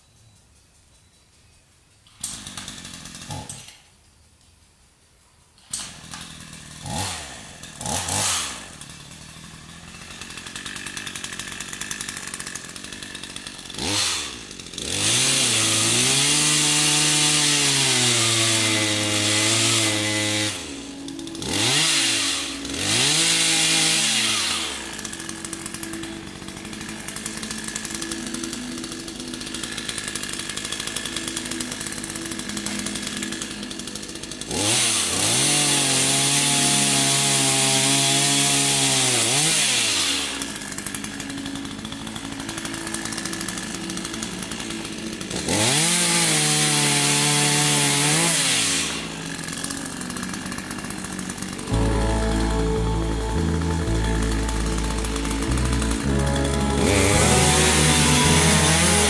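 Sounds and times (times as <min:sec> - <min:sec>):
chainsaw revving and idling: 0:02.1 - 0:03.9, 0:05.6 - 0:59.0.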